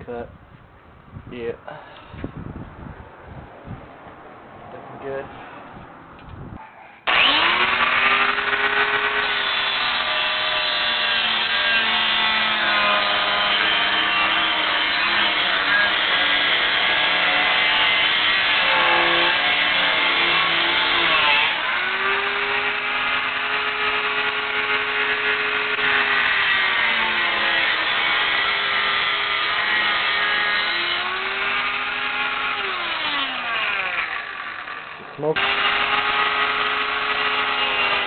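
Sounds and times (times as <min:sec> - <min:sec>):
abrasive wheel grinding steel: 0:07.1 - 0:38.0.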